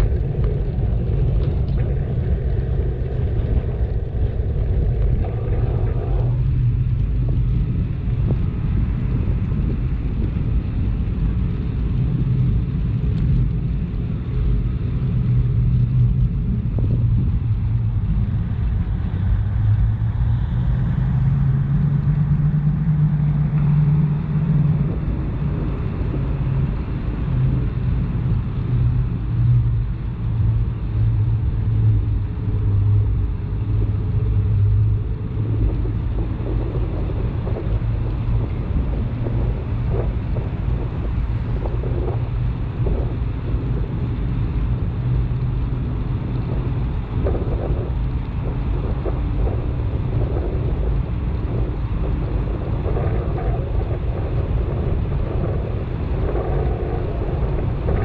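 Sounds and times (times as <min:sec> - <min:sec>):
motor traffic: 0:00.0 - 0:58.0
vehicle engine hum: 0:00.0 - 0:58.0
wind and road noise: 0:00.0 - 0:58.0.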